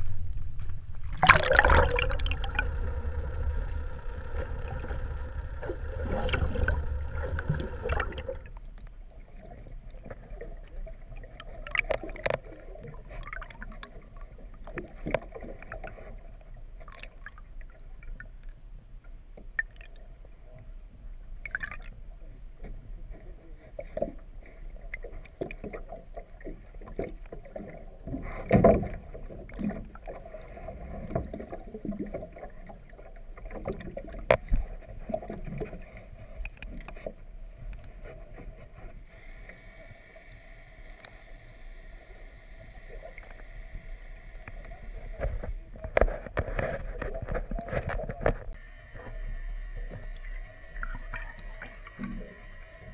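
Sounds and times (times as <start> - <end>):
boat motor hum underwater: 0.0 - 52.9
muffled water noise: 0.0 - 52.9.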